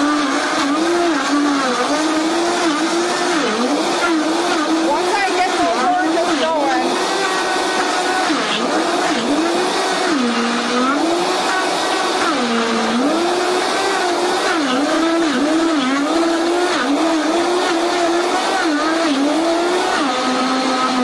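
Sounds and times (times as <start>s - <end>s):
blender motor blending ice: 0.0s - 21.0s.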